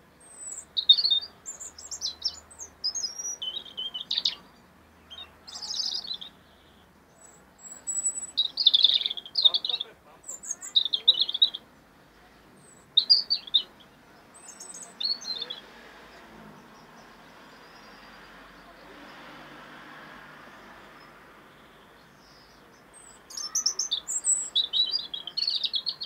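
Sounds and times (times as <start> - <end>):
robin singing: 0.0 - 26.0.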